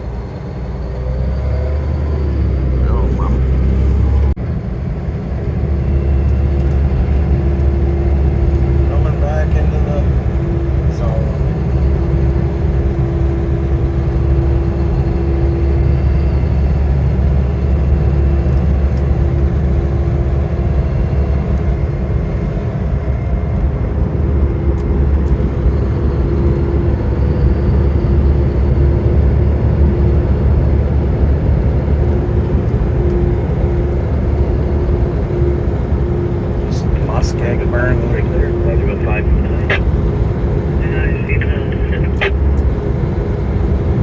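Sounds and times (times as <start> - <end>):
road and engine noise in truck cab: 0.0 - 44.0.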